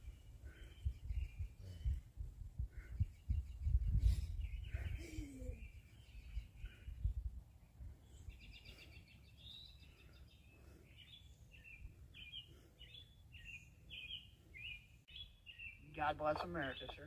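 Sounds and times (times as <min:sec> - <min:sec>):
bird singing: 0:00.0 - 0:02.0, 0:02.8 - 0:17.0.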